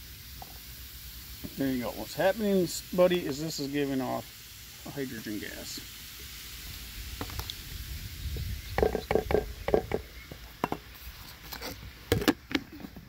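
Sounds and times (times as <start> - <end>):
fizzing hiss in metal can: 0.0 - 13.0.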